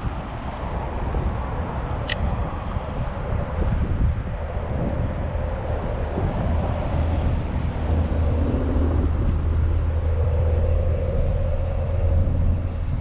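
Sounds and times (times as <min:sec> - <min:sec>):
faint even drone: 0:00.0 - 0:13.0
outdoor rumble: 0:00.0 - 0:13.0.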